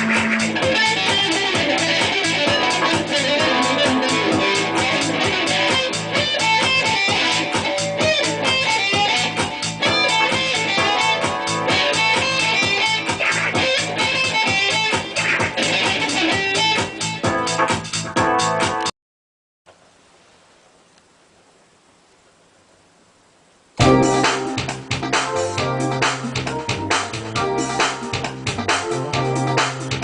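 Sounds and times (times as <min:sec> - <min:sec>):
fast picked guitar music: 0:00.0 - 0:18.9, 0:23.8 - 0:30.0.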